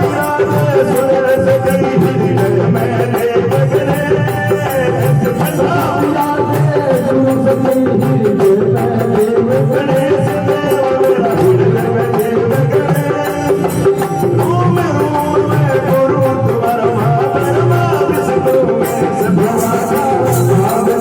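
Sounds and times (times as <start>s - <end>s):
hand drum rhythm: 0.0s - 21.0s
keyboard melody: 0.0s - 21.0s.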